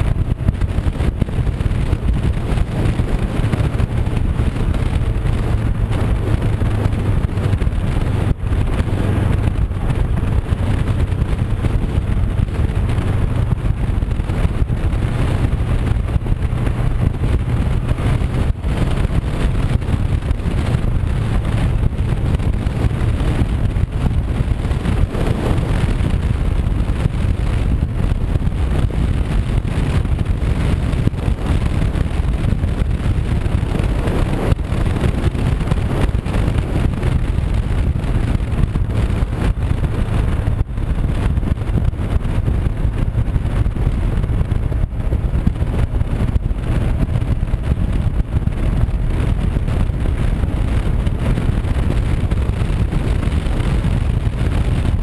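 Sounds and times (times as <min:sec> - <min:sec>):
heavy wind rush on microphone: 0:00.0 - 0:55.0
motorcycle engine running: 0:00.0 - 0:55.0.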